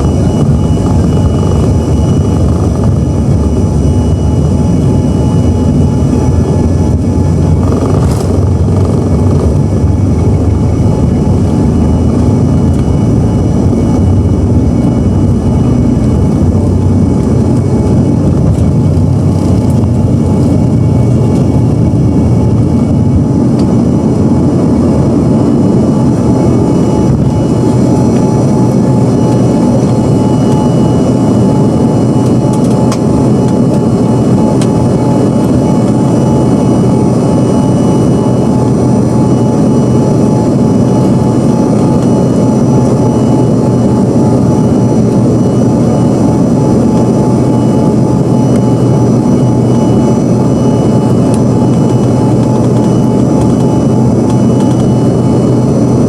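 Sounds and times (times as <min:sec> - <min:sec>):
jet engines heard from cabin: 0:00.0 - 0:56.0.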